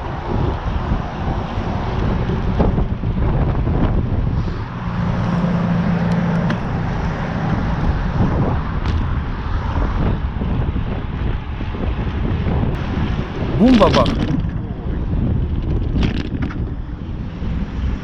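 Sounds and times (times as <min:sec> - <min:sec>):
wind buffeting microphone: 0:00.0 - 0:05.6, 0:06.5 - 0:18.0.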